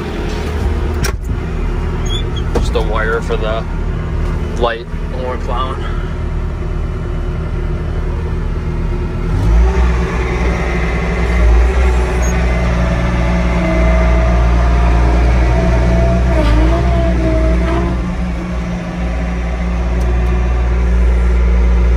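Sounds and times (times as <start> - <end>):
skid steer engine running: 0.0 - 21.9
steady whine: 0.0 - 21.9.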